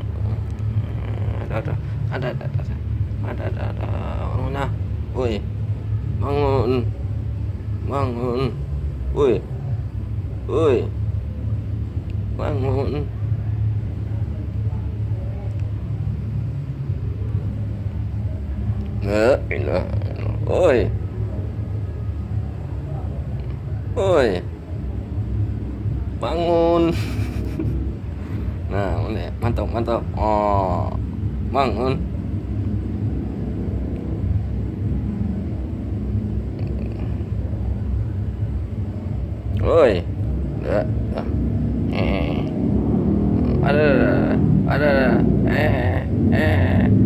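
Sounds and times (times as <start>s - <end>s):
steady low rumble: 0.0s - 47.0s.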